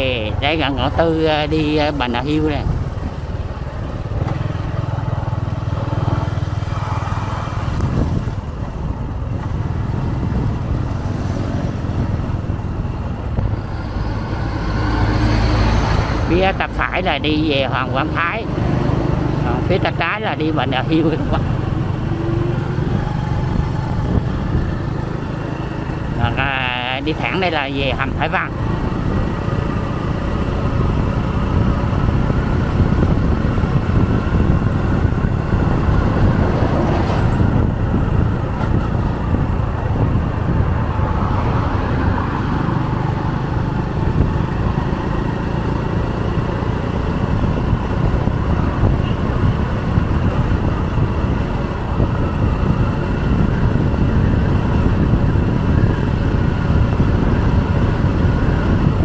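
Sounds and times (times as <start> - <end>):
faint vehicle hum: 0.0 - 59.0
wind and road noise: 0.0 - 59.0.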